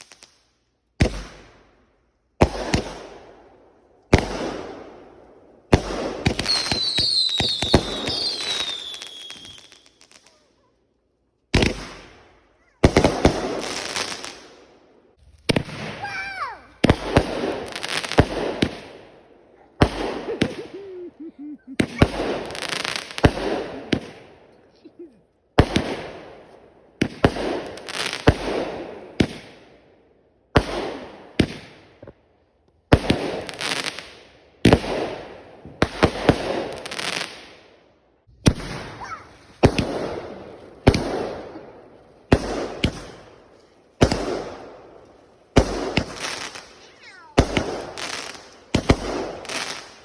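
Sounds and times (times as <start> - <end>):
fireworks bangs: 2.4 - 3.5, 4.1 - 10.6, 11.5 - 24.7, 25.5 - 29.7, 30.6 - 32.2, 32.9 - 37.6, 38.2 - 50.0.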